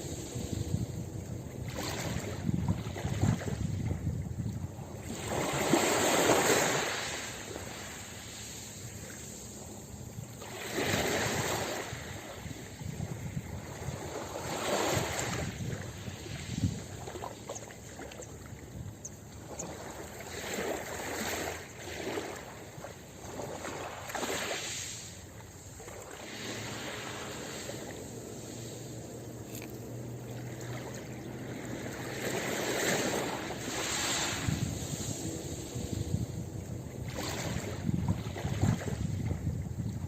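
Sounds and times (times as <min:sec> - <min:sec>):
ocean waves breaking on beach: 0:00.0 - 0:40.0.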